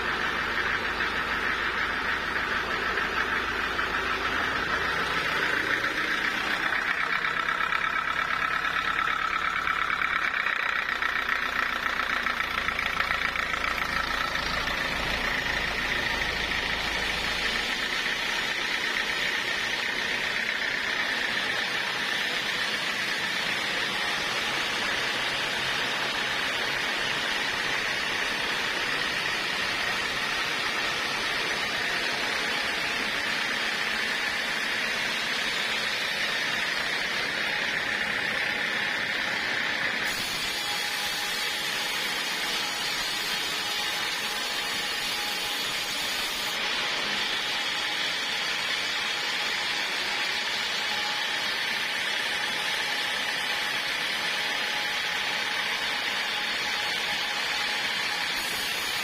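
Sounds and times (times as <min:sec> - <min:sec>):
sawmill whining: 0:00.0 - 0:59.0.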